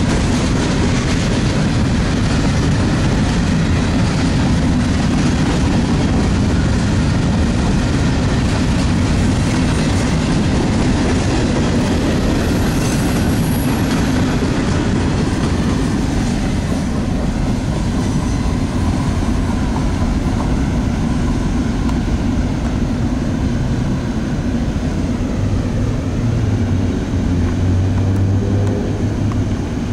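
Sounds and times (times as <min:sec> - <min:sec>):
freight train cars rumbling: 0:00.0 - 0:29.9.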